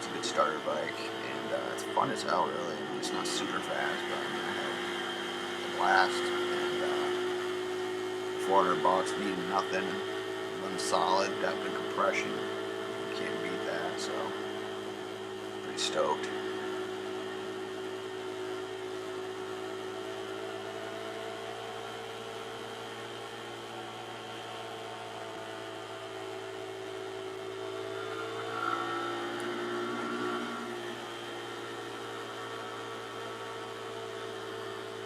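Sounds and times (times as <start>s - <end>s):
pit bike engine running: 0.0s - 35.0s.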